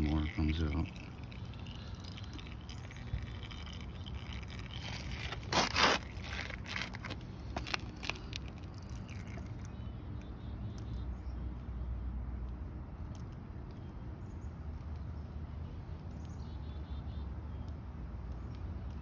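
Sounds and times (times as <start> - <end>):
steady low rumble: 0.0 - 16.5.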